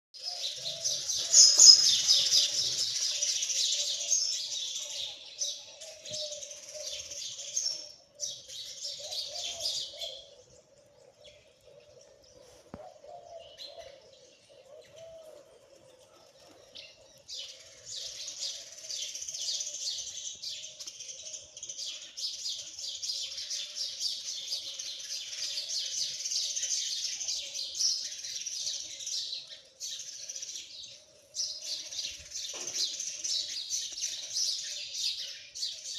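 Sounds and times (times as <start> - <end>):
small birds chirping: 0.2 - 35.9.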